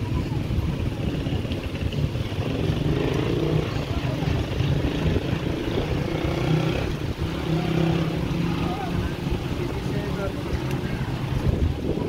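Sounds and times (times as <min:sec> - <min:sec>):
faint voices: 0:00.0 - 0:12.0
wind buffeting microphone: 0:00.0 - 0:12.0.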